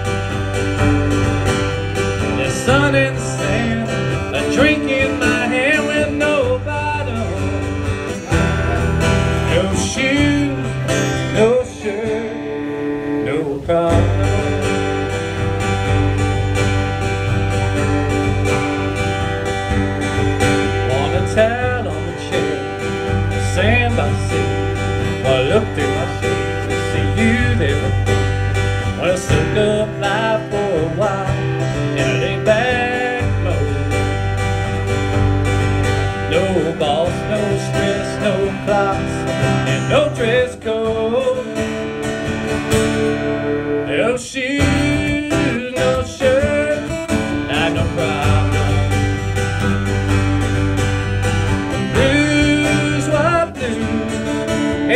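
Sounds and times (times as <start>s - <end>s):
steady bass line: 0.0s - 44.0s, 44.6s - 54.9s
guitar-led band instrumental: 0.0s - 54.9s.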